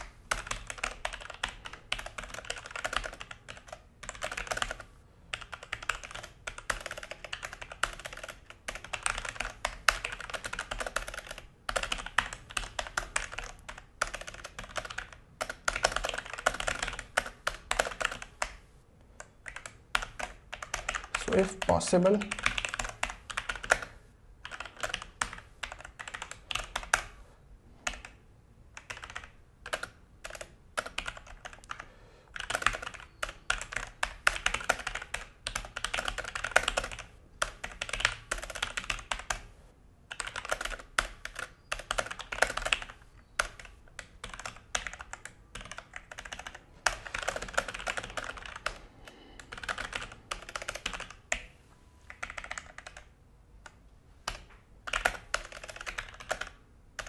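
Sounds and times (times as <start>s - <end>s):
mechanical keyboard typing: 0.0s - 18.6s, 19.2s - 27.1s, 27.8s - 28.2s, 28.8s - 39.5s, 40.1s - 48.8s, 49.4s - 51.5s, 52.1s - 57.0s.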